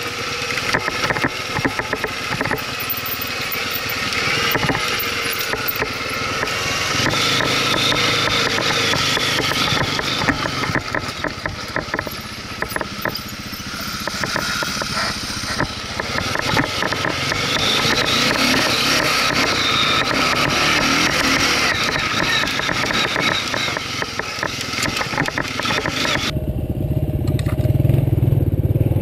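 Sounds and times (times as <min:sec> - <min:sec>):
quad bike engine running: 0:00.0 - 0:29.0
rattles and knocks from bumps: 0:00.6 - 0:26.3.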